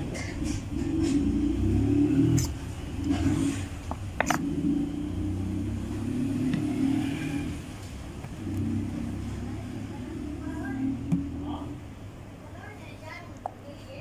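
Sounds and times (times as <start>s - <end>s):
low engine-like hum: 0.0s - 14.0s.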